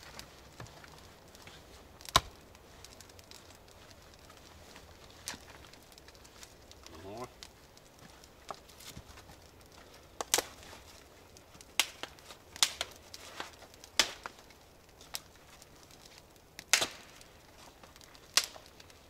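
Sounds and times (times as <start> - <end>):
firewood being chopped: 0.0 - 19.0.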